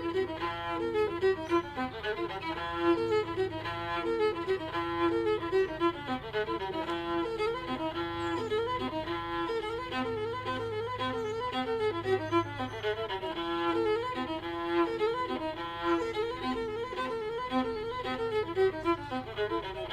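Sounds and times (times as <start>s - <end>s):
fiddle tune: 0.0s - 19.9s.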